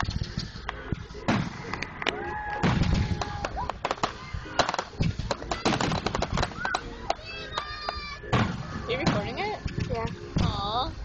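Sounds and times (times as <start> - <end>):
fireworks popping and crackling: 0.0 - 10.6.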